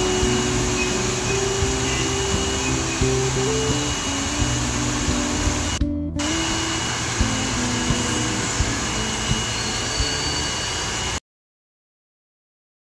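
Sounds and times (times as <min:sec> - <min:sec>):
hair dryer blowing: 0:00.0 - 0:11.2.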